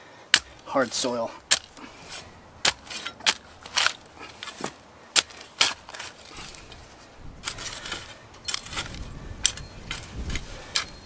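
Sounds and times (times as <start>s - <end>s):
shovel blade striking gravelly soil: 0.3s - 11.0s.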